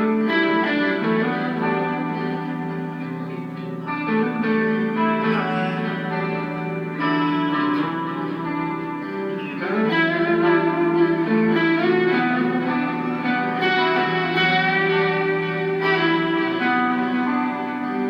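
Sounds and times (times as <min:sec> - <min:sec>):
overdriven electric guitar melody: 0:00.0 - 0:18.0.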